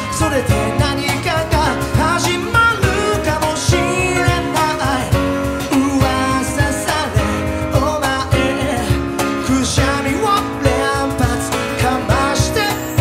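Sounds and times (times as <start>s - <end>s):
acoustic guitar strumming: 0.0s - 13.0s
man singing: 0.0s - 13.0s.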